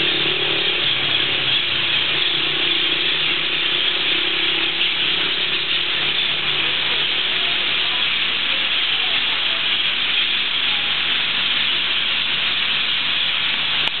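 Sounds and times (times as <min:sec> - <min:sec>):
flock of parrots calling: 0:00.0 - 0:14.0.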